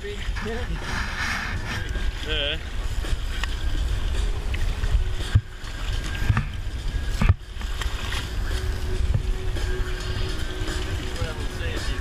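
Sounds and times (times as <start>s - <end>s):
low rumble: 0.0s - 12.0s
water noise: 0.0s - 12.0s
wind: 0.0s - 12.0s.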